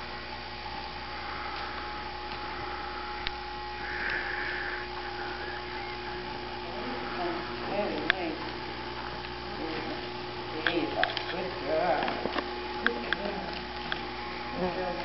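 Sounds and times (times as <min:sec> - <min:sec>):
two-tone electrical hum: 0:00.0 - 0:15.0.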